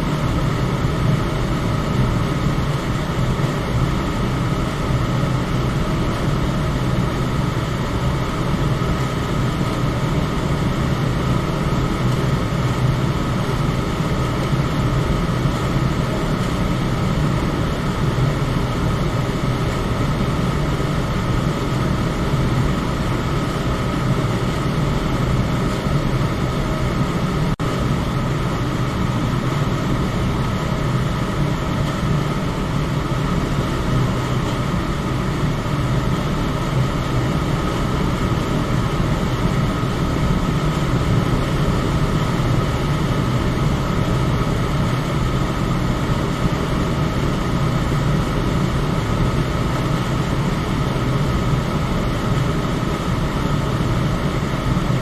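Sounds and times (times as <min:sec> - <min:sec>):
electric fan whooshing drone: 0:00.0 - 0:55.0.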